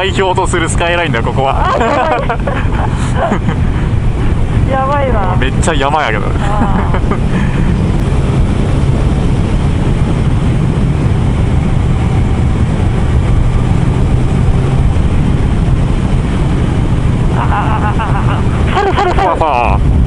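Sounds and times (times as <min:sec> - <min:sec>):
motorcycle engine drone: 0:00.0 - 0:20.0
wind rush over microphone: 0:00.0 - 0:20.0.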